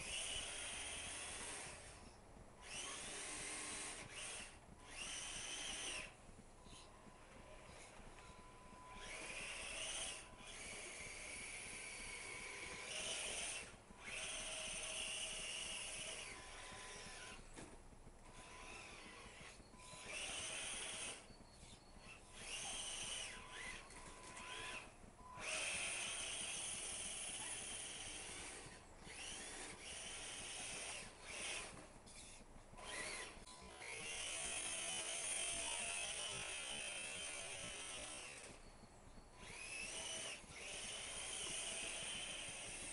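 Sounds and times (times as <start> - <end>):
electric motor whining: 0.0 - 42.9.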